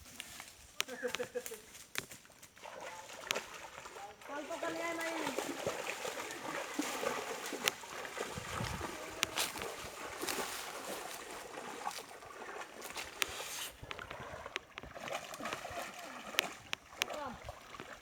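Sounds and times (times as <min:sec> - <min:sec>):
water splashing and sloshing: 0:00.2 - 0:18.0.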